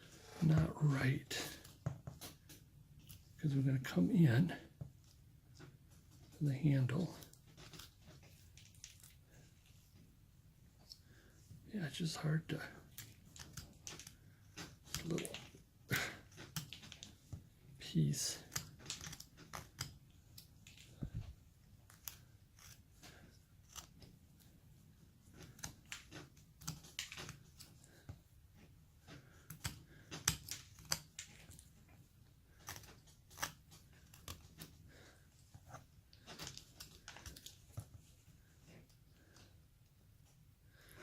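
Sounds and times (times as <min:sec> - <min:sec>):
knife shaving wood: 0:00.0 - 0:10.1, 0:10.8 - 0:39.6.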